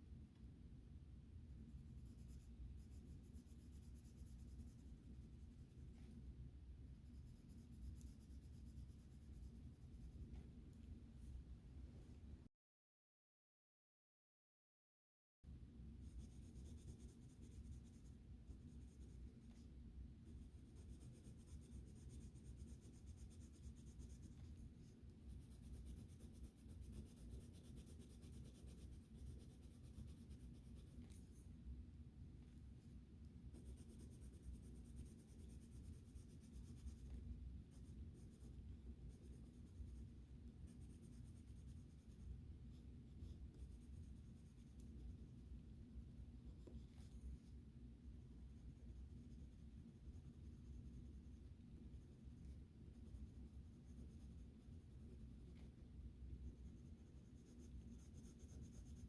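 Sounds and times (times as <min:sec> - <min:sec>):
steady low hum: 0:00.0 - 0:12.5, 0:15.5 - 0:59.0
colouring strokes on paper: 0:01.7 - 0:06.3, 0:06.9 - 0:10.5, 0:16.0 - 0:31.5, 0:32.5 - 0:45.5, 0:48.3 - 0:59.0.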